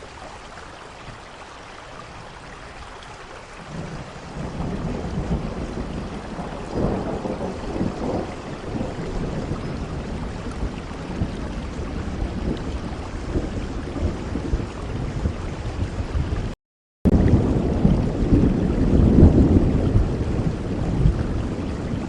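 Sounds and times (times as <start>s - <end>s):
steady rain: 0.0s - 22.0s
thunder rumbling: 3.6s - 22.0s.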